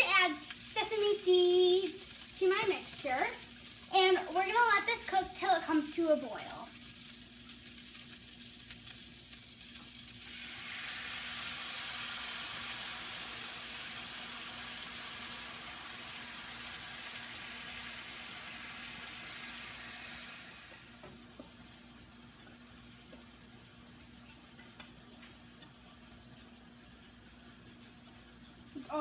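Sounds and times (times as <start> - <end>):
sauce sizzling in a pan: 0.0 - 29.0.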